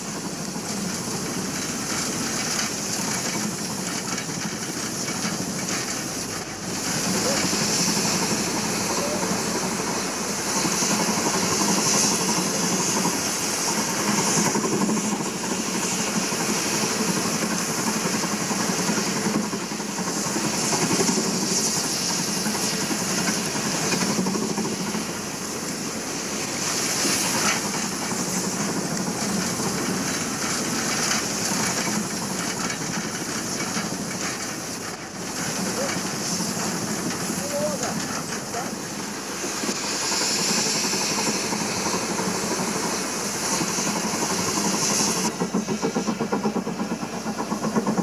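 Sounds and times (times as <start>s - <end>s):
rotary snowplough churning snow: 0.0s - 48.0s.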